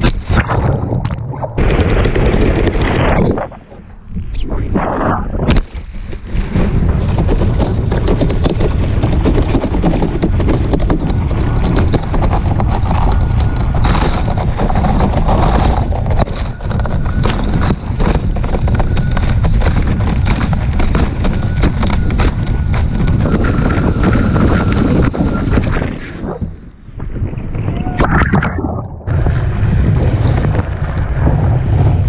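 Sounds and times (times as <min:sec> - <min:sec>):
board slapping water: 0:00.0 - 0:03.9, 0:05.1 - 0:32.0
wind blasting microphone: 0:00.0 - 0:32.0.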